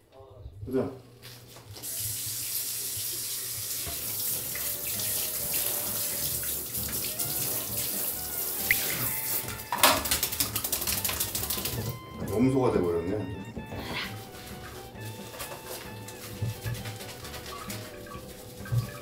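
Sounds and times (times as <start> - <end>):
shower water running: 1.2 - 19.0.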